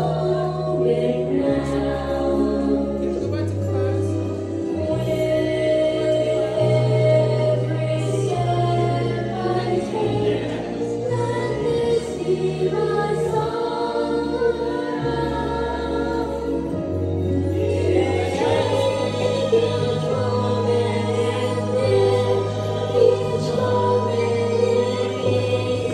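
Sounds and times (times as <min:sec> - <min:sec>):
group of voices singing: 0:00.0 - 0:25.9.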